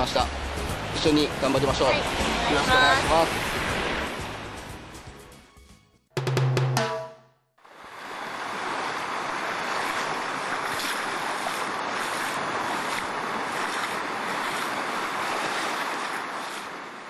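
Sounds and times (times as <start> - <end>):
small waves washing on beach: 0.0 - 4.6, 7.6 - 17.0.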